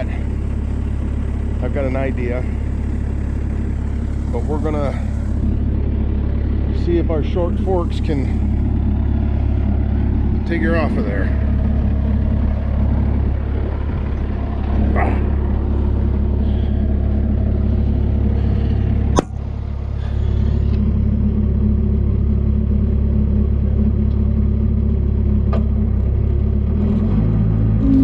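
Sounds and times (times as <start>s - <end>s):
loader engine running: 0.0s - 28.0s.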